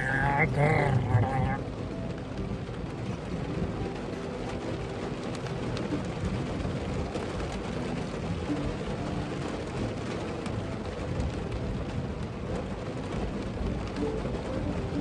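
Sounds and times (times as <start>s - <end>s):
low constant rumble: 0.0s - 15.0s
rain on a car roof: 0.0s - 15.0s.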